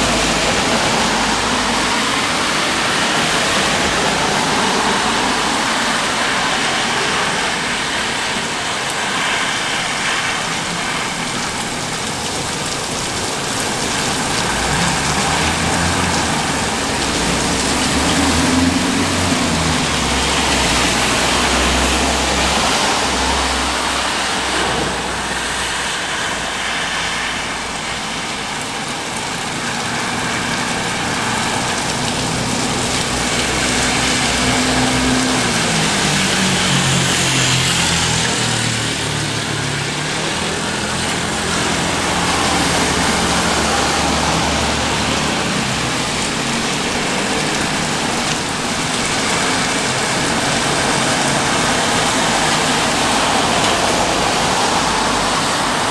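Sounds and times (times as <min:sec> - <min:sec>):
rain falling: 0:00.0 - 0:55.9.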